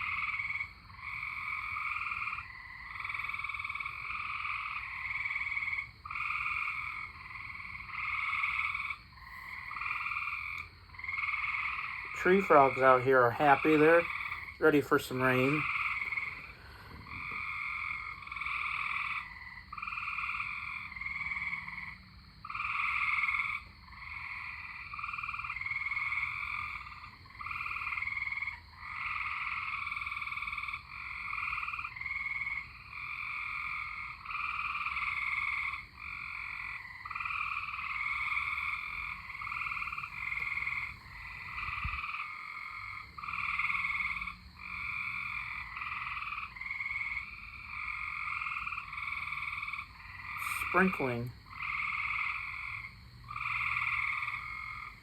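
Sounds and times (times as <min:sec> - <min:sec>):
tree frogs trilling: 0:00.0 - 0:55.0.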